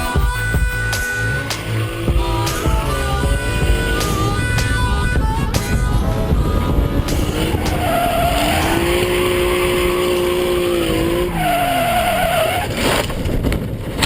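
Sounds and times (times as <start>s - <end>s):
car tyres squealing: 0.0s - 14.0s
engine and road noise: 0.0s - 14.0s.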